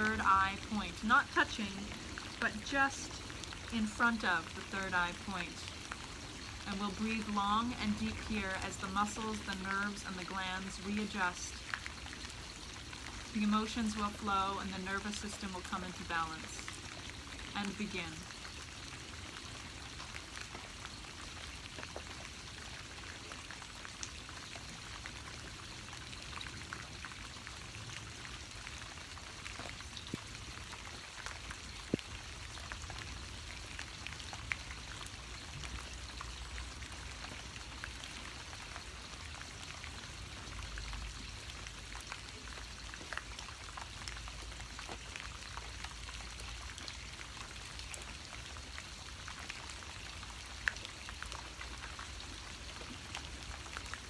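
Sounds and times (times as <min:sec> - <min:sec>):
raindrops ticking on a surface: 0:00.0 - 0:54.0
steady rain: 0:00.0 - 0:54.0.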